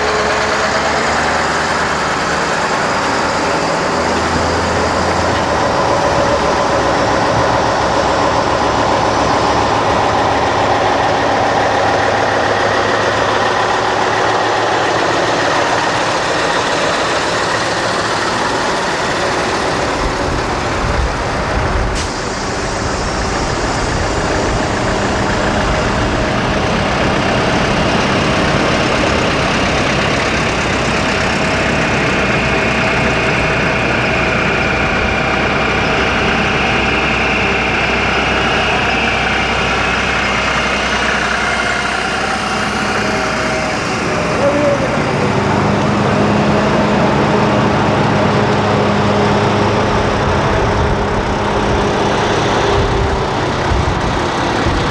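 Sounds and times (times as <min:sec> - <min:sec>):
heavy truck engines passing: 0:00.0 - 0:54.9.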